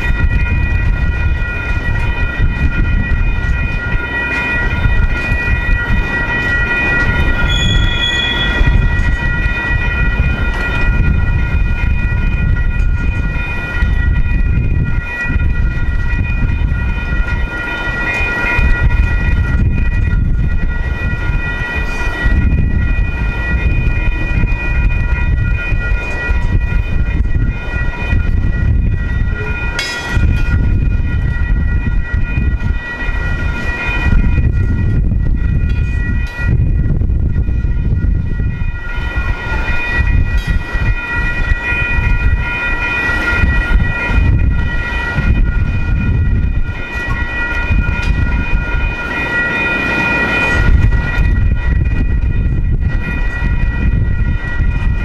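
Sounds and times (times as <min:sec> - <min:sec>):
crossing warning bells: 0:00.0 - 0:55.0
freight train wheels rumbling: 0:00.0 - 0:55.0.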